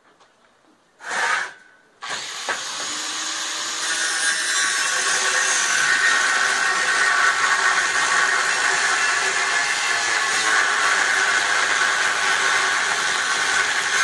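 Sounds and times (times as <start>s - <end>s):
handheld power tool running: 1.0s - 14.0s.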